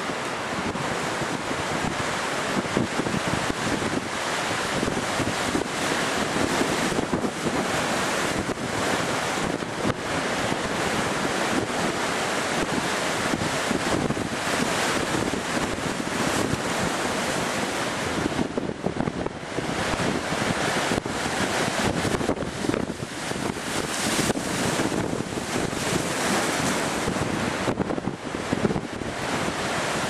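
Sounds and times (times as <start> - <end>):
rough sea and breaking surf: 0.0 - 30.0
strong wind buffeting microphone: 0.0 - 30.0.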